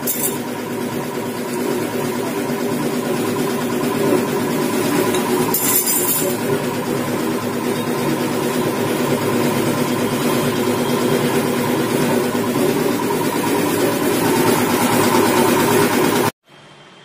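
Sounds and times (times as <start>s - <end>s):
air compressor running: 0.0s - 17.0s.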